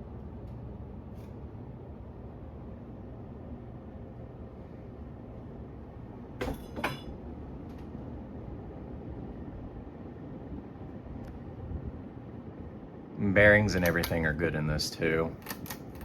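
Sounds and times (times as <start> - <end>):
ceiling fan whirring: 0.0 - 16.0.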